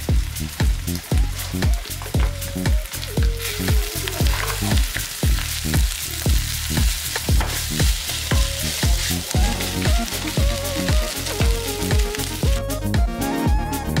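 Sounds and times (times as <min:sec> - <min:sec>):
rice sizzling in a frying pan: 0:00.0 - 0:13.4
background music with a beat: 0:00.0 - 0:14.0
wooden spatulas stirring: 0:00.6 - 0:12.5.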